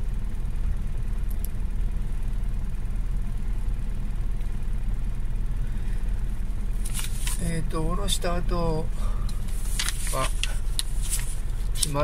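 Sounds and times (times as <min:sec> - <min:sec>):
truck engine rumble in cab: 0:00.0 - 0:12.0.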